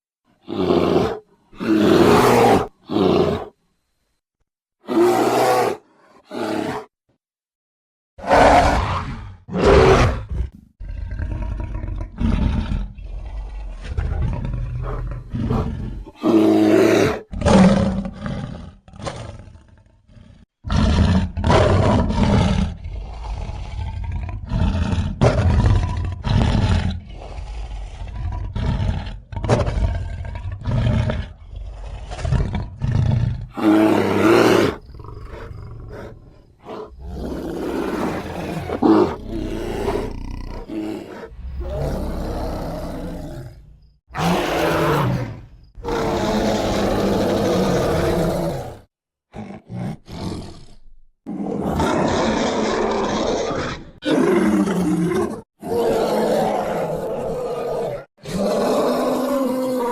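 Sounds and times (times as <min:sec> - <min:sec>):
bear roars and growls: 0:00.4 - 0:03.6, 0:04.8 - 0:07.0, 0:08.2 - 0:59.9.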